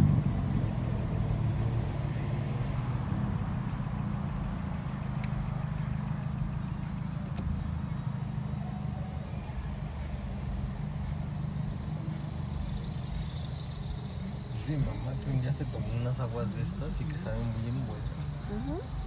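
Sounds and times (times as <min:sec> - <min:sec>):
car exhaust drone: 0:00.0 - 0:19.0.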